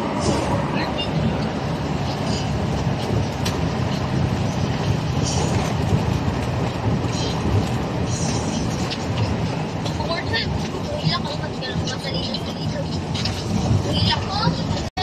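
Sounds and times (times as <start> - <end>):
road noise: 0.0 - 15.0
vehicle body rattling: 0.0 - 15.0
vehicle engine running: 0.0 - 15.0.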